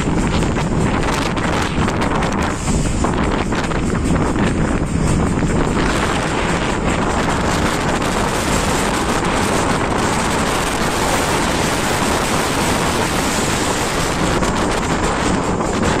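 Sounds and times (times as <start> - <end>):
sea rushing along ship hull: 0.0 - 16.0
wind buffeting microphone: 0.0 - 16.0.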